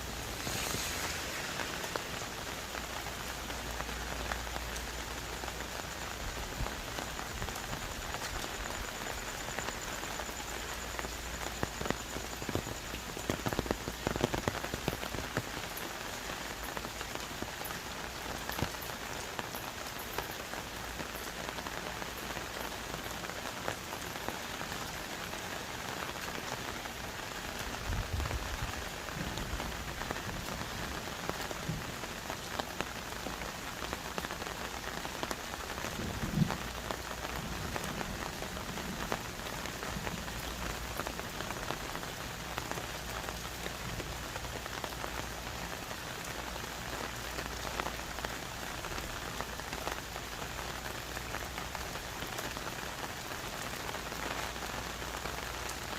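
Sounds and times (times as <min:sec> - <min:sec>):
heavy rain on foliage: 0:00.0 - 0:55.9.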